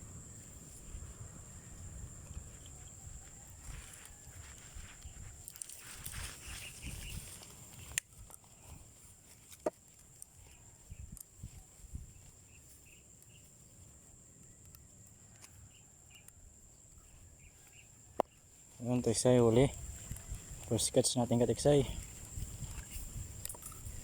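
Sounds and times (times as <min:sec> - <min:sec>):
faint rustling steps: 0:00.4 - 0:24.0.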